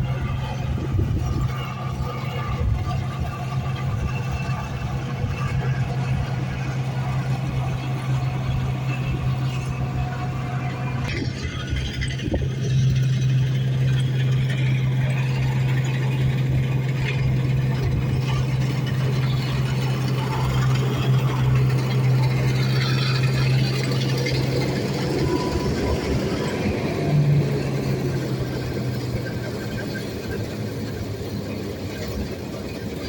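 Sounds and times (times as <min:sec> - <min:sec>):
farm machine engine droning: 0:00.0 - 0:33.0
mechanical clatter: 0:00.0 - 0:33.0.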